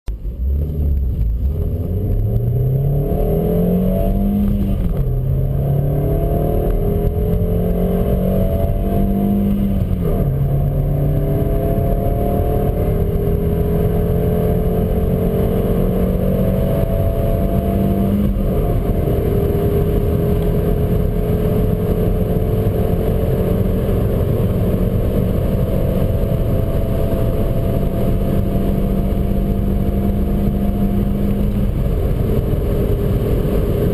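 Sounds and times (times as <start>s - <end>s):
car engine accelerating hard: 0.1s - 33.9s.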